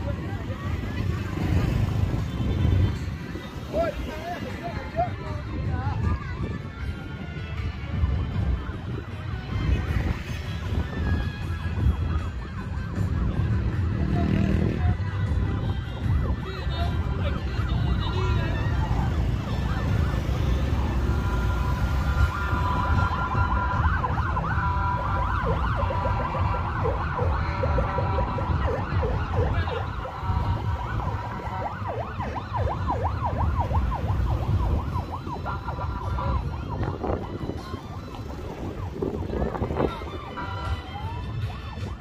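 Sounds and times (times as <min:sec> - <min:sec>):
vehicle sirens warbling: 0:00.0 - 0:42.0.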